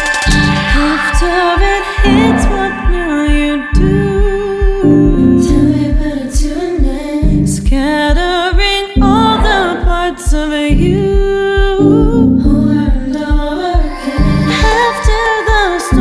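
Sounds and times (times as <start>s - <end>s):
steady low beat: 0.0s - 16.0s
woman singing: 0.0s - 16.0s.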